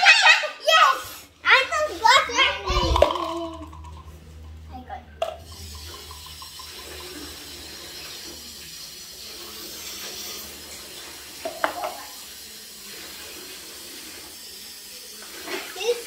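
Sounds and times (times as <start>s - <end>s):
water running from a tap: 0.0s - 4.5s, 5.2s - 16.0s.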